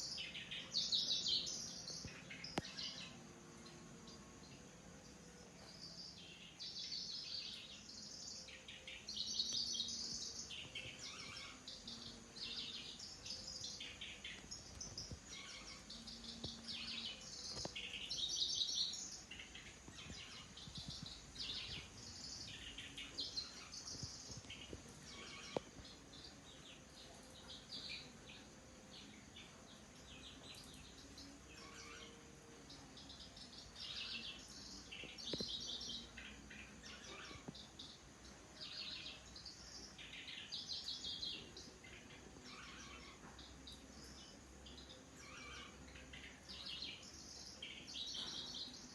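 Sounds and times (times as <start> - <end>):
warbler singing: 0.0 - 48.9.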